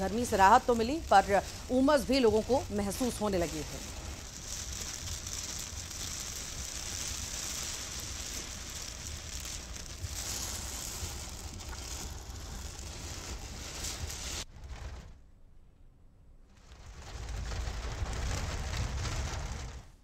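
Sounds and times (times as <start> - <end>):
heavy rain falling: 0.0 - 14.5, 16.8 - 20.0
low rumble: 0.0 - 20.0.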